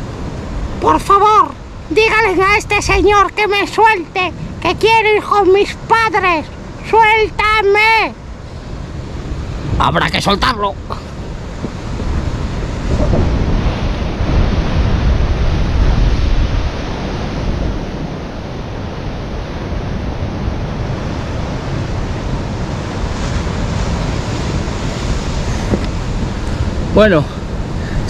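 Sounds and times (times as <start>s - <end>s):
sea surf washing on shore: 0.0s - 28.0s
wind buffeting microphone: 0.0s - 28.0s.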